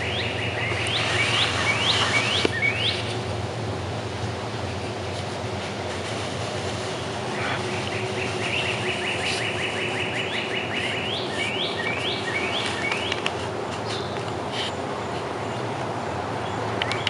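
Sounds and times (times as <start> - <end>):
songbird singing: 0.0 - 5.5, 6.8 - 17.0
low background noise: 0.0 - 17.0.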